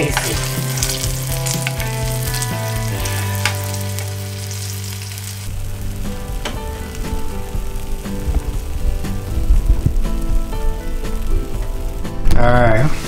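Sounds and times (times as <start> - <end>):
background music low notes: 0.0 - 13.0
frying in hot oil: 0.0 - 13.0.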